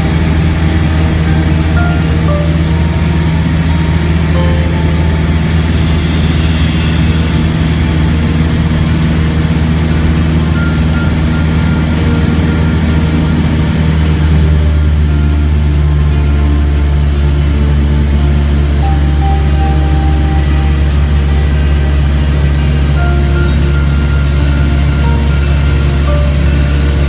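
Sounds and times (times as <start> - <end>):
aircraft engine and propeller droning: 0.0 - 27.0.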